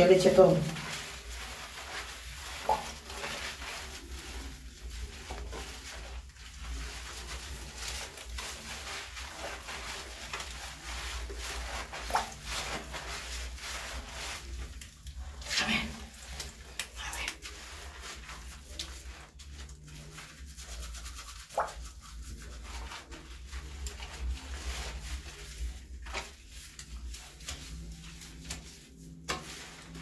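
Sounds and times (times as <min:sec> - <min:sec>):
wet fur scrubbing and squelching: 0:00.0 - 0:30.0.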